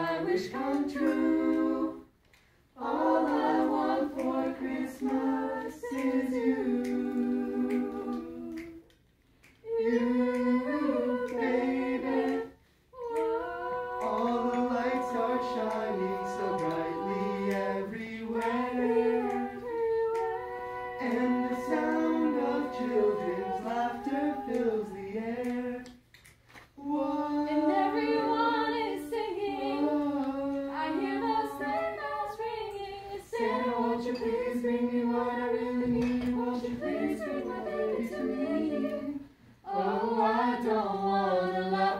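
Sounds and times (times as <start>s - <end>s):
group singing a cappella: 0.0s - 41.9s.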